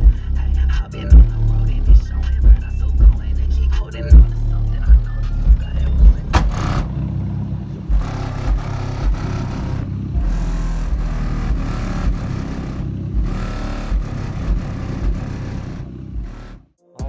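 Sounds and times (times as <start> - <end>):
rap song through subwoofer: 0.0 - 7.1, 7.8 - 17.0
deep bass hits: 0.0 - 16.6.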